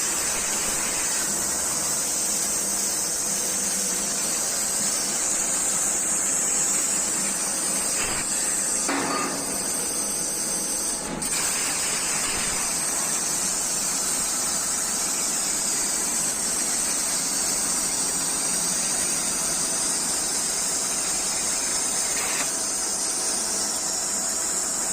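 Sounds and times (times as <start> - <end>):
plasma cutter hissing: 0.0 - 24.9.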